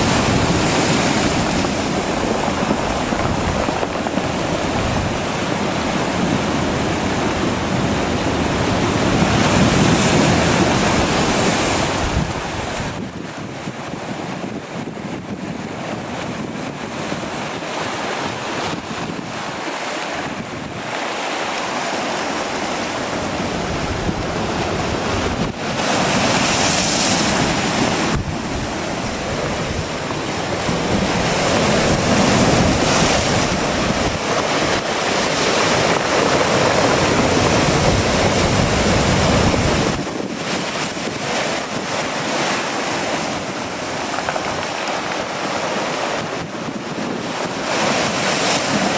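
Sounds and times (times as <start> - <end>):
ocean surf: 0.0 - 48.9
wind buffeting microphone: 0.0 - 48.9.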